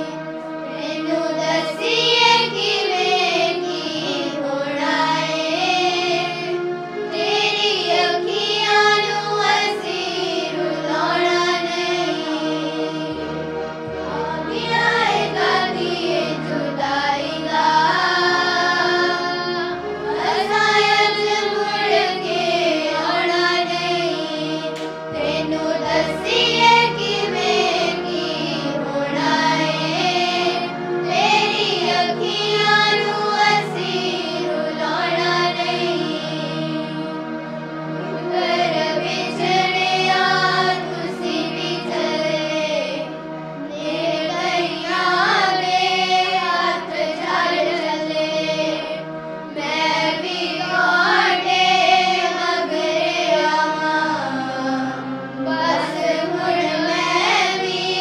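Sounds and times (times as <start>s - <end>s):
girls singing in unison: 0.0s - 37.2s, 38.0s - 58.0s
steady low drone: 0.0s - 58.0s.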